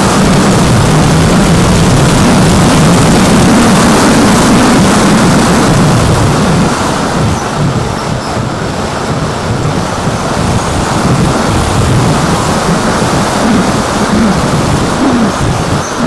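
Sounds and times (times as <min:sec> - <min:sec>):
electric motor and propeller drone: 0:00.0 - 0:16.0
rushing wind: 0:00.0 - 0:16.0.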